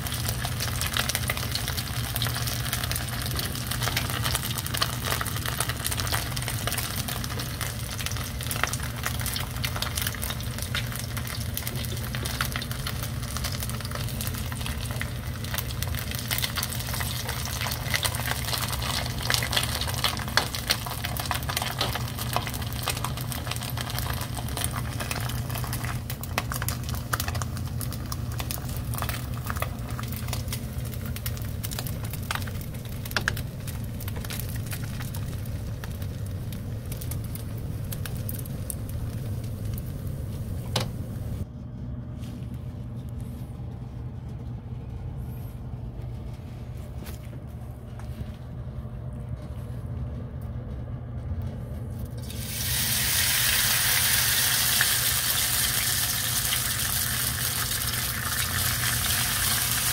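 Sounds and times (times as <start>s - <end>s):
fish deep-frying in oil: 0.0s - 41.4s, 52.2s - 59.9s
low steady hum: 0.0s - 59.9s.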